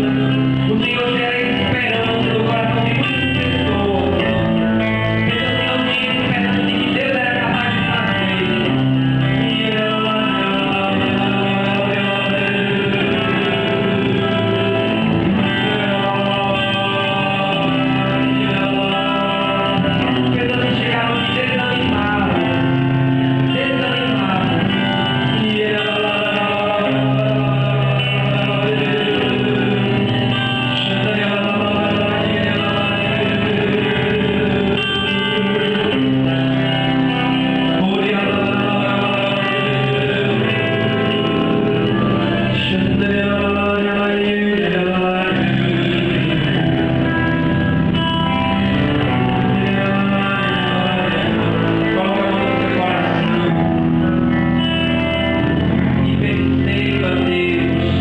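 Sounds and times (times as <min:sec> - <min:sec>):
guitar accompaniment: 0:00.0 - 0:58.0
man singing into microphone: 0:00.0 - 0:58.0.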